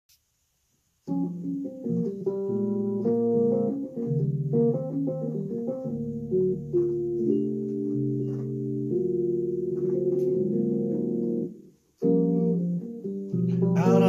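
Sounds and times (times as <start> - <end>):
electric piano jazz-blues chords: 1.1 - 14.0.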